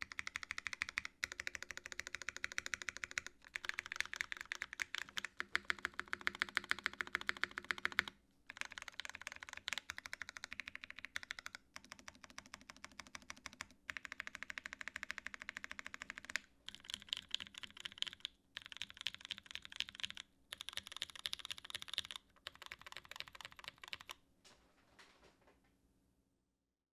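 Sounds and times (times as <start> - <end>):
mechanical keyboard typing: 0.0 - 24.2.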